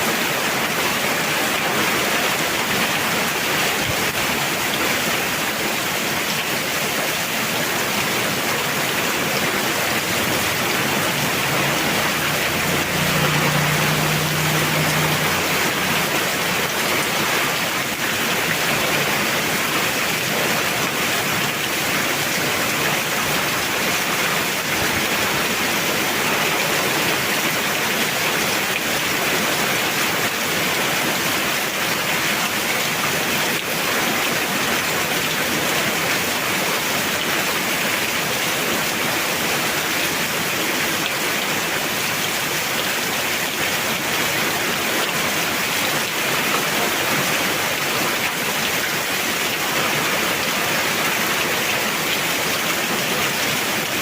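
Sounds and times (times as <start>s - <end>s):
heavy rain on surfaces: 0.0s - 54.0s.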